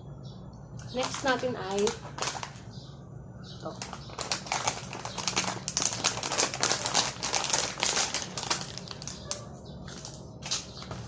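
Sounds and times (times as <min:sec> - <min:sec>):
plastic bag crinkling: 0:00.9 - 0:02.7, 0:03.7 - 0:11.0.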